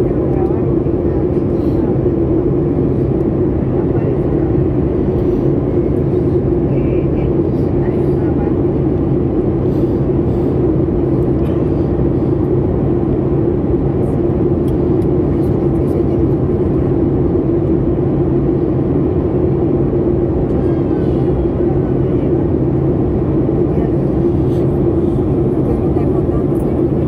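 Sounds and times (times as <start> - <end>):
airplane cabin drone: 0.0 - 27.0.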